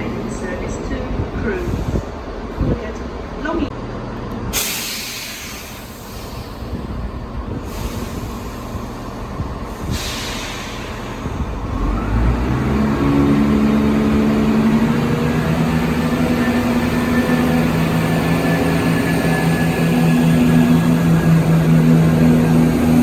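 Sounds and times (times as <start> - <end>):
diesel train engine powering up: 0.0 - 23.0.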